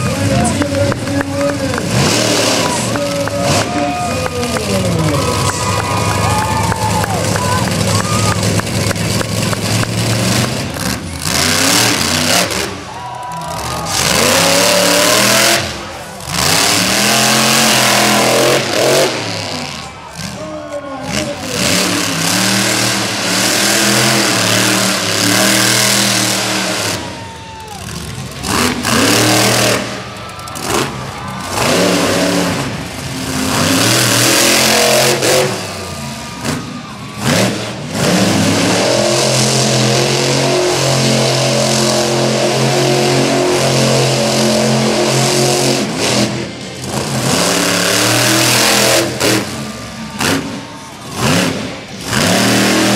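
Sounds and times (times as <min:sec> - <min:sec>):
monster truck engines revving: 0:00.0 - 0:52.9.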